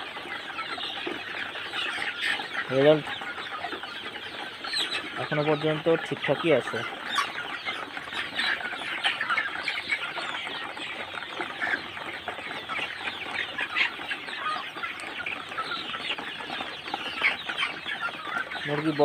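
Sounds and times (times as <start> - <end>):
chickens chirping and clucking: 0.0 - 19.0.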